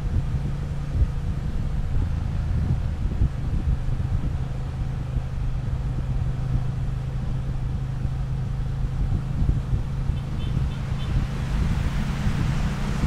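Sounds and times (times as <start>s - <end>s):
road and wind rush: 0.0s - 13.0s.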